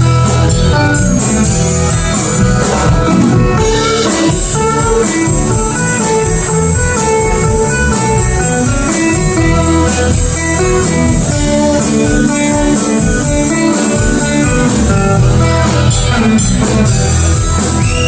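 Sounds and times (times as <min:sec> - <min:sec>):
guitar melodic lead: 0:00.0 - 0:18.0
live band playing: 0:00.0 - 0:18.0.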